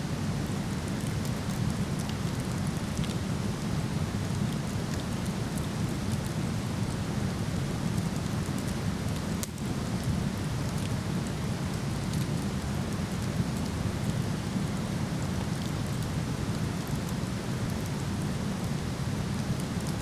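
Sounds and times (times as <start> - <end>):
wood fire crackling: 0.3 - 20.0.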